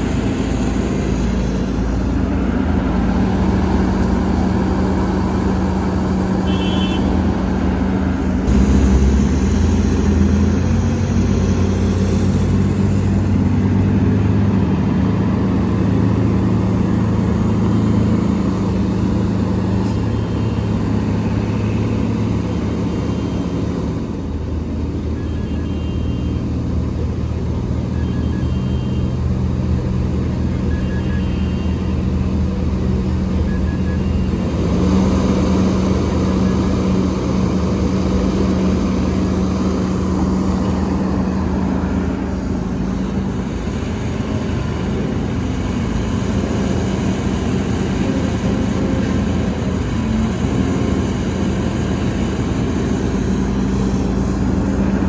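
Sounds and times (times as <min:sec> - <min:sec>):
diesel earthmoving machinery running: 0:00.0 - 0:55.0.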